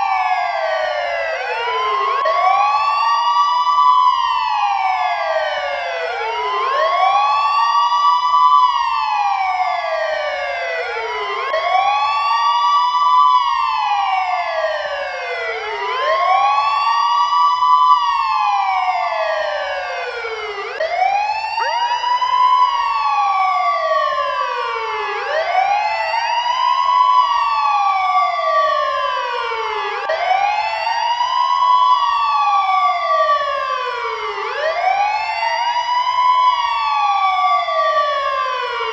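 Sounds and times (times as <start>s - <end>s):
ambulance siren wailing: 0.0s - 38.9s.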